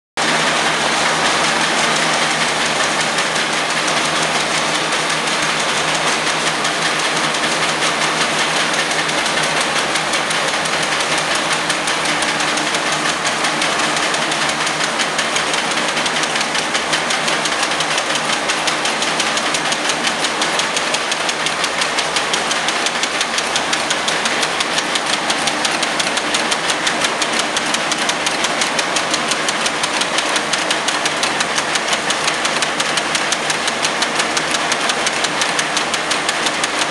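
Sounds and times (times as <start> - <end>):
wire-cutting machine clatter: 0.2 - 36.9.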